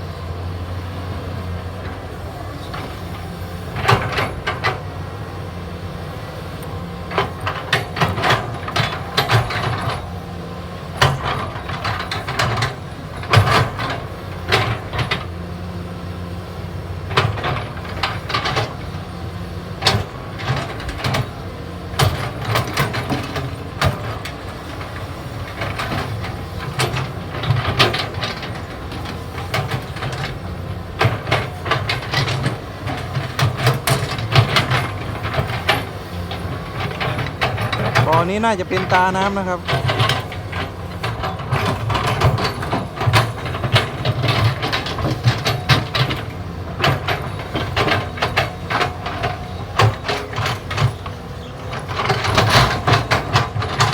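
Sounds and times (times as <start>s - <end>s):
excavator clanks and knocks: 0.0s - 53.9s
excavator diesel engine running: 0.0s - 53.9s.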